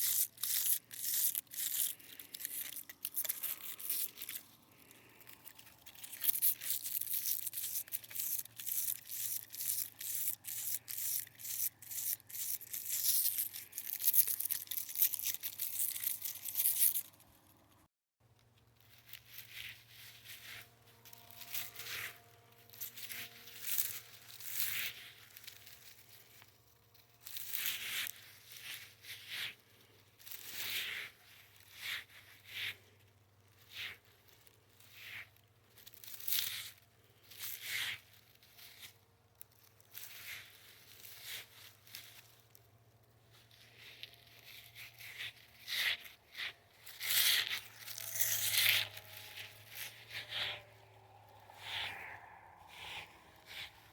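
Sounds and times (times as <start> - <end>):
tearing crackling noises by hand: 0.0 - 17.9, 18.8 - 53.9.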